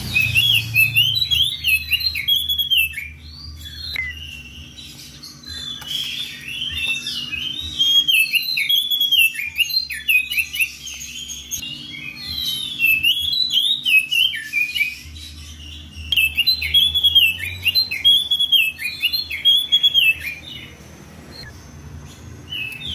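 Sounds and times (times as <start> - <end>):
bird singing whistled song: 0.0 - 22.9.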